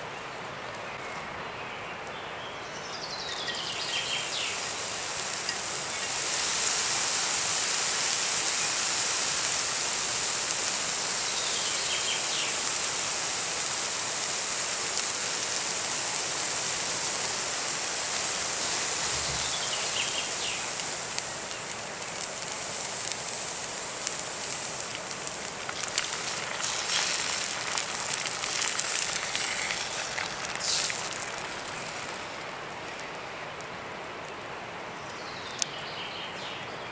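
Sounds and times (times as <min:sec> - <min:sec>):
food frying hiss: 0:02.6 - 0:36.0
fire crackles and pops: 0:03.0 - 0:35.7.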